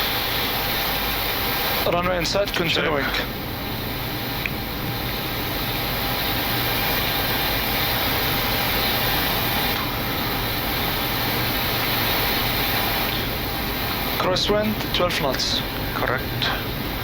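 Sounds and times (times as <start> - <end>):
slipstream and jet engines rushing: 0.0 - 17.0.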